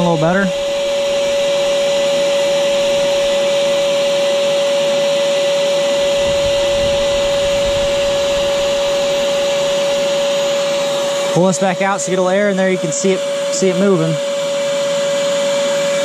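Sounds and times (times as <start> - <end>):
vacuum cleaner whining: 0.0 - 16.0.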